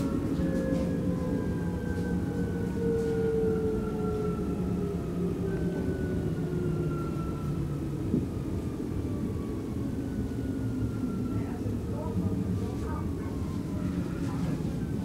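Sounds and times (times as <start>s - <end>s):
rumble of wheels on rail: 0.0s - 15.0s.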